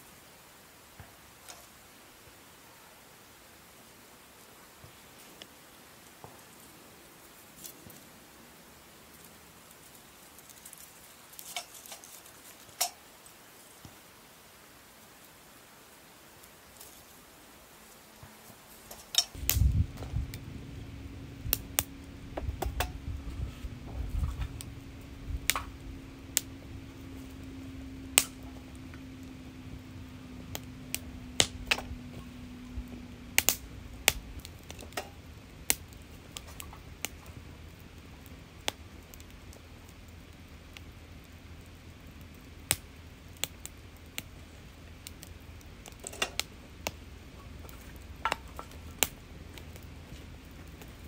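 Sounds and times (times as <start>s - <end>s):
fire crackling and popping: 0.0s - 2.5s, 3.4s - 51.0s
faint steady hum: 0.0s - 51.0s
low fire rumble: 0.0s - 51.0s.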